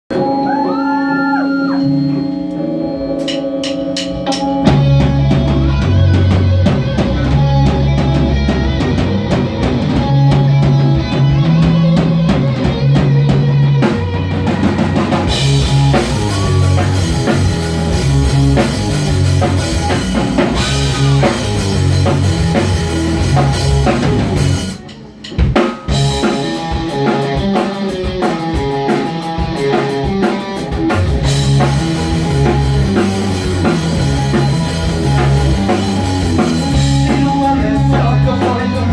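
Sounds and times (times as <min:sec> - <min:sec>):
bass guitar: 0:00.1 - 0:38.9
drum kit: 0:00.1 - 0:38.9
electric guitar: 0:00.1 - 0:38.9.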